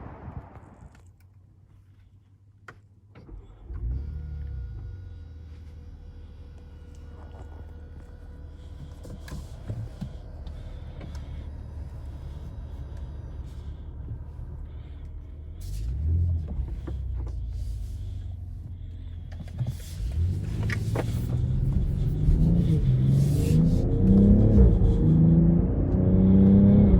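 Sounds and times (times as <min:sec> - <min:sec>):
car engine accelerating: 0:00.0 - 0:01.0, 0:03.2 - 0:26.9
road noise: 0:00.0 - 0:01.1, 0:05.4 - 0:26.9.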